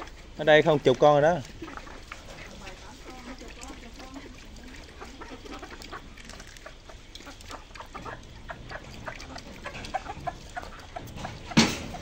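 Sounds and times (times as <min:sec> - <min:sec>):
chickens clucking: 0:00.0 - 0:12.0
chickens pecking on concrete: 0:00.0 - 0:12.0.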